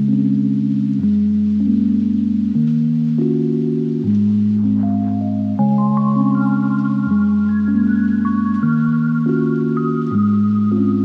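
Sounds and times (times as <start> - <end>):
soft synthesizer chords: 0.0 - 11.0
high held synth melody: 1.3 - 11.0.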